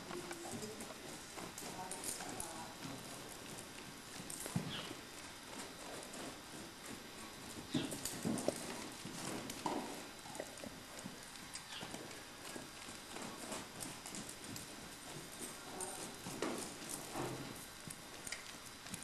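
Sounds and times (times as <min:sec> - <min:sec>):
horse hoofbeats on dirt: 0:00.0 - 0:19.0.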